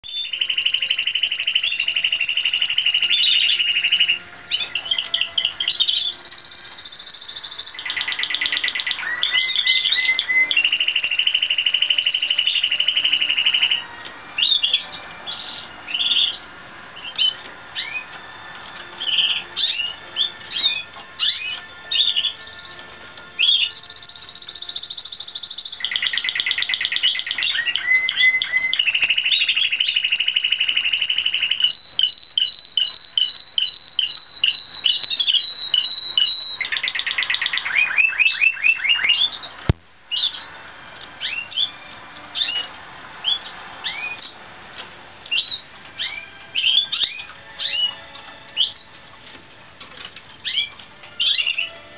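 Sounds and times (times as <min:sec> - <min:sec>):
canary singing trills and chirps: 0:00.0 - 0:40.6, 0:41.2 - 0:44.4, 0:45.2 - 0:51.9.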